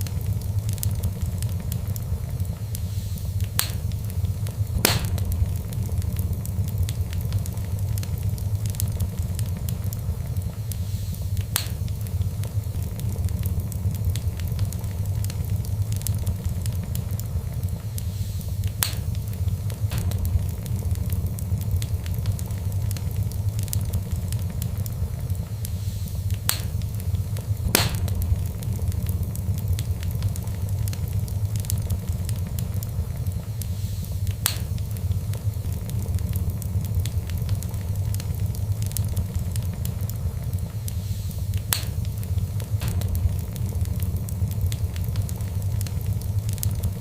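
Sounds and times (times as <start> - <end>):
low rumble of flames: 0.0 - 47.0
wood fire crackling: 0.0 - 47.0.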